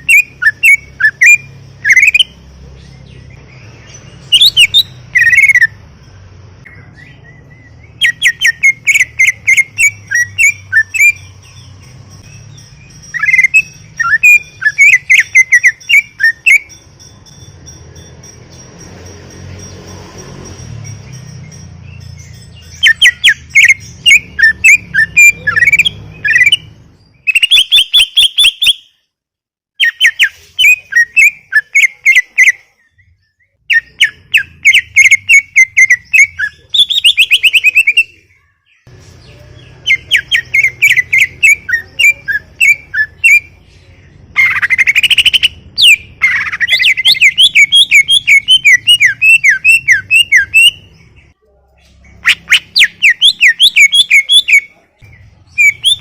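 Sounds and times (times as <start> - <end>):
bird singing chattering phrases: 0.0 - 29.0, 29.8 - 56.0.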